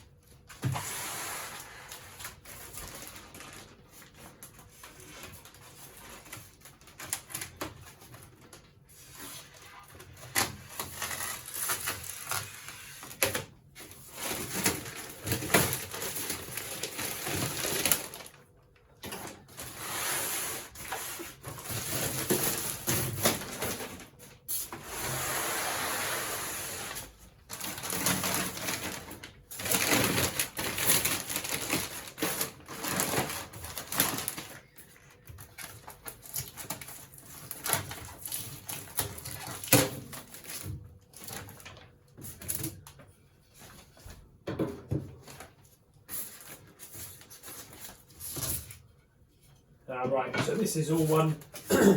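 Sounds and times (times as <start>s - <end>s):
packaging rustling and scraping: 0.3s - 44.2s, 45.1s - 49.6s.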